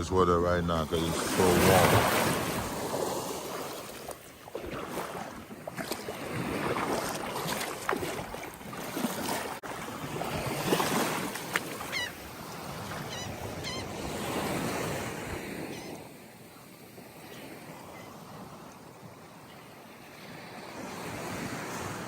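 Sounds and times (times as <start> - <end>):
small waves on sandy beach: 0.0 - 22.0.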